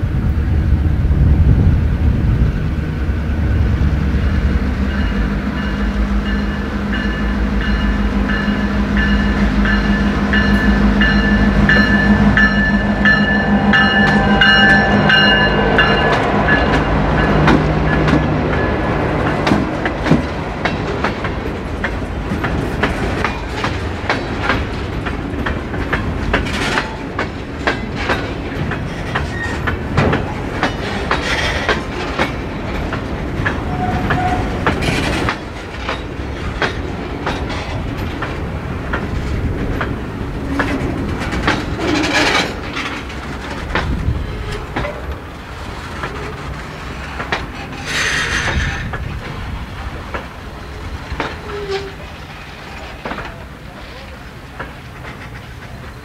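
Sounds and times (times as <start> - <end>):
wheels clacking over rail joints: 4.8 - 56.0.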